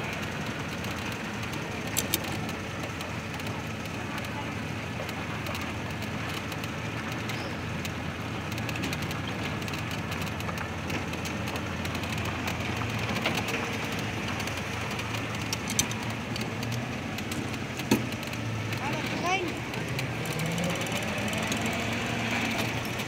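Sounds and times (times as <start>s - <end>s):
car engine running: 0.0s - 23.0s
light clicks: 0.1s - 4.4s, 5.0s - 23.0s.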